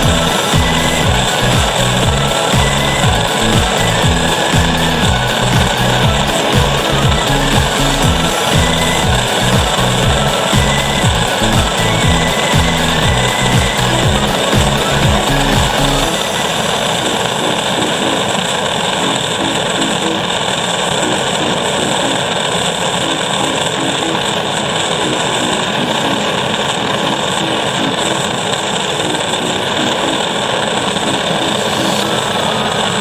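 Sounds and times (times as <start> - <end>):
dense steady wash of sound: 0.0 - 33.0
simple stepping melody: 0.0 - 33.0.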